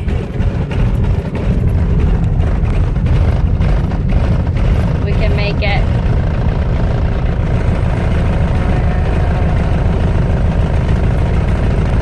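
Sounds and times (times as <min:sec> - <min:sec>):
car low rumble: 0:00.0 - 0:12.0
flat tire thumping: 0:00.0 - 0:12.0.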